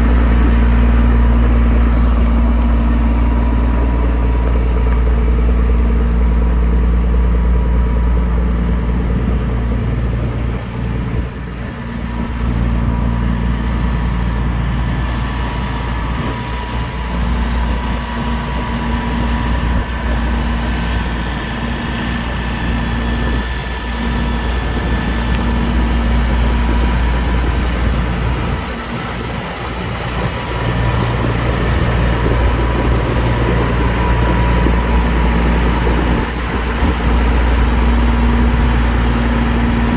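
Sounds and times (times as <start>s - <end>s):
motor running with low rumble: 0.0s - 39.9s.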